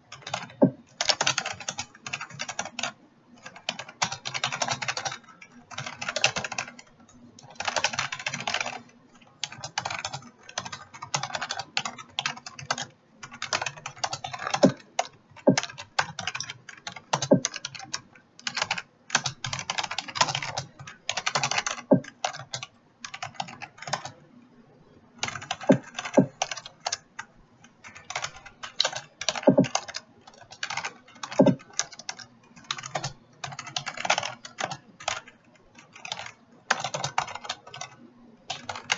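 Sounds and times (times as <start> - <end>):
fast keyboard typing: 0.0 - 24.2, 25.2 - 38.9.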